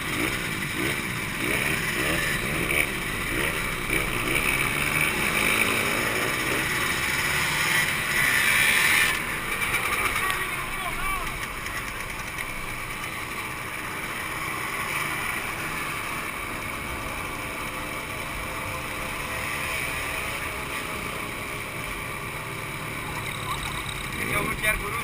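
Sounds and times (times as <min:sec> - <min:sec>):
two-stroke motorcycle engines running: 0:00.0 - 0:25.0.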